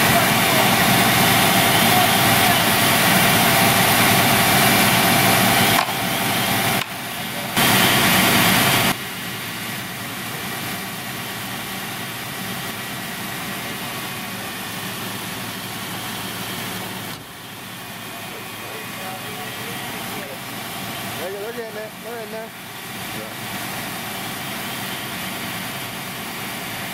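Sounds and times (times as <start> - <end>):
fire truck engine running: 0.0 - 26.9.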